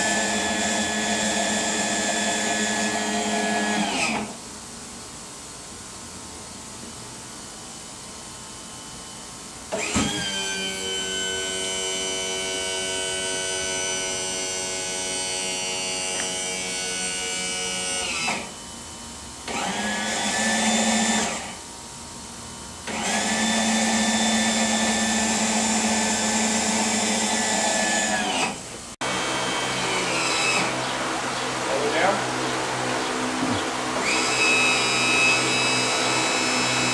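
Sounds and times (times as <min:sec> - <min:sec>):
electric pump motor whine: 0:00.0 - 0:04.5, 0:07.5 - 0:36.9.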